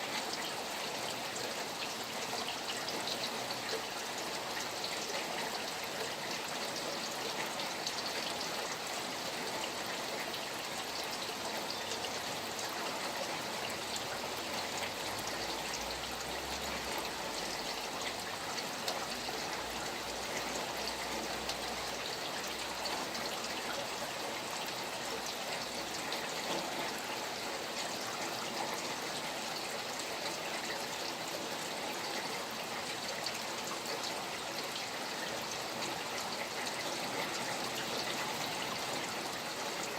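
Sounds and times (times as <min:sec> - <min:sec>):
rain falling: 0:00.0 - 0:39.9
stream running: 0:00.0 - 0:39.9.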